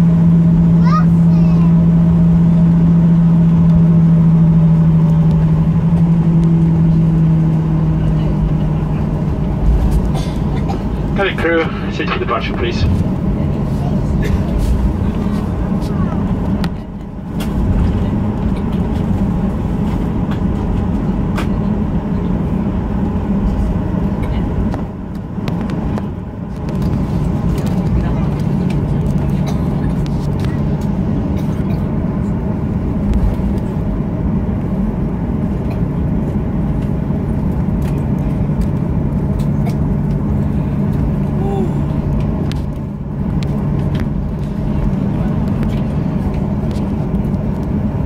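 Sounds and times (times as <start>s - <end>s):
aircraft cabin rumble: 0.0s - 48.0s
jet engines humming: 0.0s - 48.0s.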